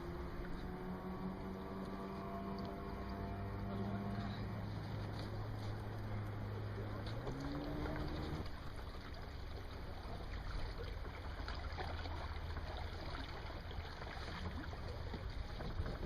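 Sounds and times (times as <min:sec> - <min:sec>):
water lapping splashes: 0:00.0 - 0:16.0
wind and water around boat: 0:00.0 - 0:16.0.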